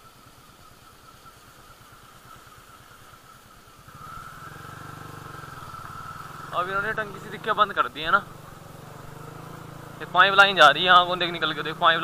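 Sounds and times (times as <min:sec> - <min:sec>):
motorcycle engine running: 0:01.8 - 0:12.0.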